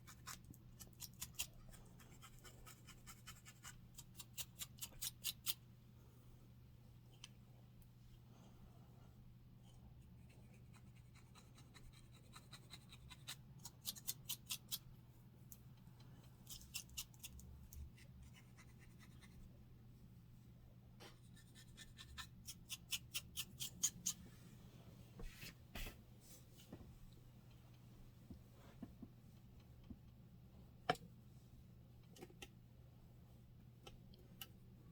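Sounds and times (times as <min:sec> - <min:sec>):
faint low hum: 0:00.0 - 0:34.9.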